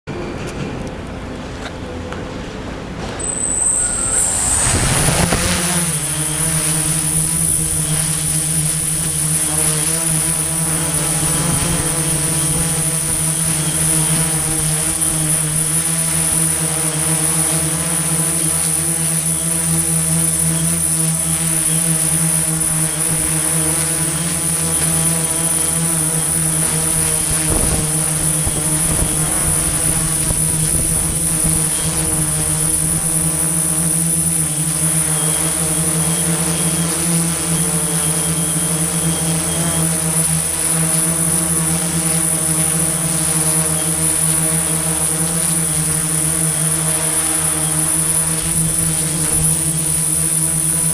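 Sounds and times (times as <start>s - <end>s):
construction machinery engine drone: 0.1s - 50.9s
thin high whine: 3.0s - 50.9s.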